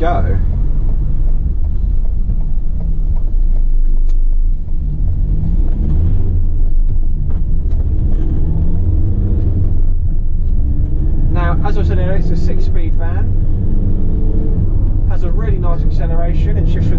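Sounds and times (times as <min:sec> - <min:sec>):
diesel engine rumbling: 0:00.0 - 0:16.9.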